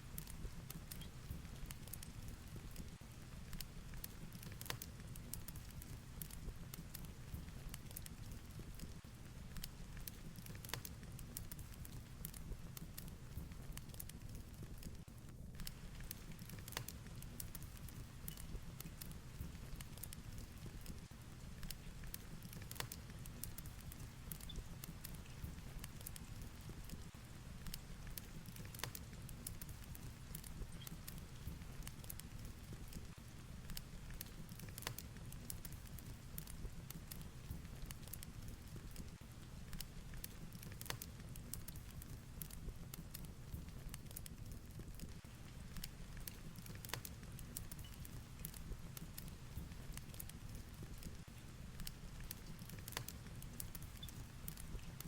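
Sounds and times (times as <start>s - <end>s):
fireplace crackling and popping: 0.0s - 55.0s
rainstorm rumble and hiss: 0.0s - 55.0s.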